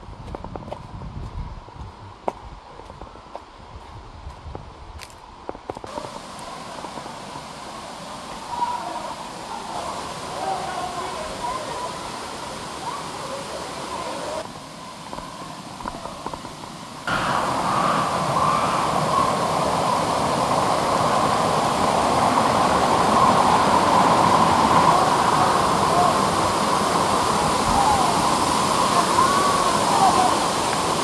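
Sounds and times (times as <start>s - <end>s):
waterfall rushing: 5.9s - 31.0s.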